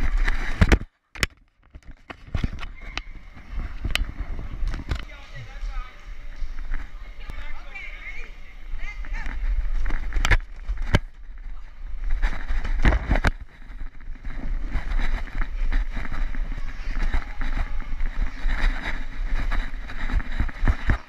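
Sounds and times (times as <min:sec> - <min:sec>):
microphone rumbling and rubbing: 0:00.0 - 0:21.0.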